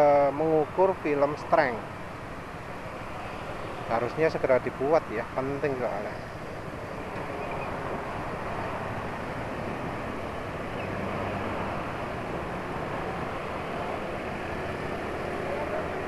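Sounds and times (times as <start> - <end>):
motorcycle engines: 0.0 - 16.0
tyres on wet road: 0.0 - 16.0.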